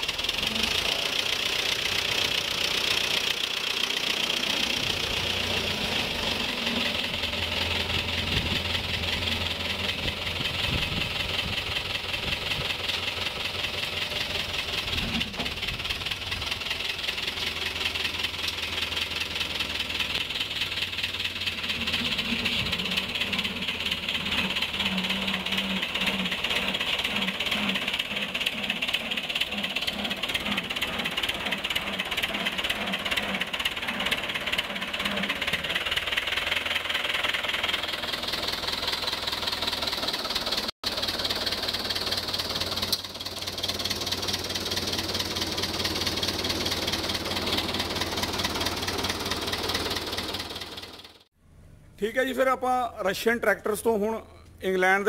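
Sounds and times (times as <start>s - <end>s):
tractor diesel engine running: 0.0s - 52.4s.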